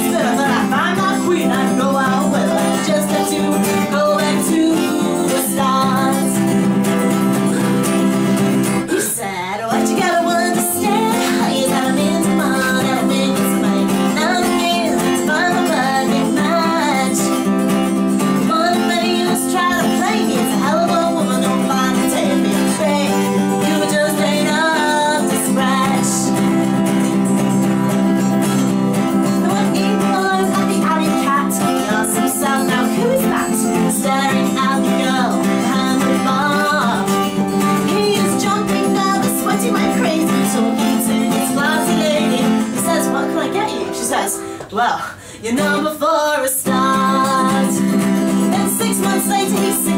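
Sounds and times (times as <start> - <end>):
strummed acoustic guitar: 0.0 - 49.9
woman singing folk song: 0.0 - 49.9.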